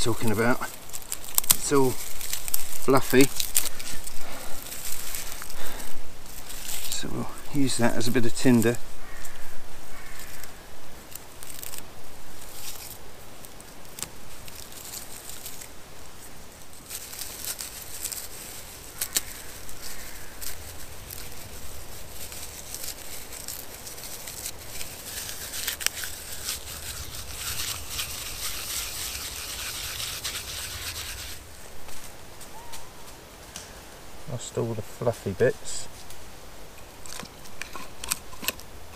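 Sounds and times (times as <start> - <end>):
bark rustling crackling and tearing: 0.0 - 33.2, 36.9 - 38.7.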